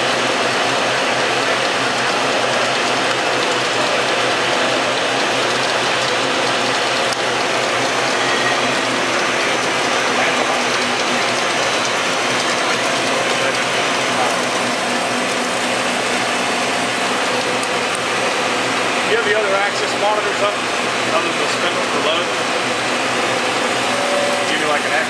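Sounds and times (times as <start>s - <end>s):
machining center running: 0.0s - 25.0s.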